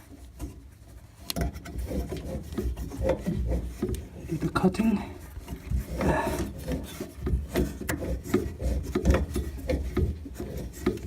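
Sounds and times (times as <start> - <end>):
tube cutter rasping on pipe: 0.0 - 11.0.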